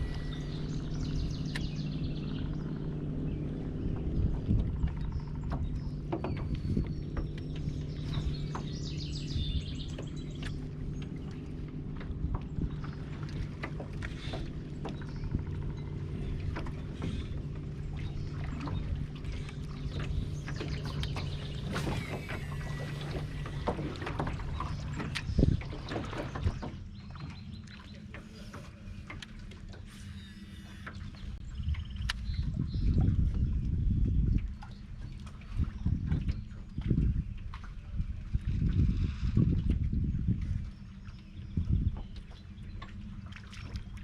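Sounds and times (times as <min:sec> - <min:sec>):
boat motor humming: 0:00.0 - 0:44.0.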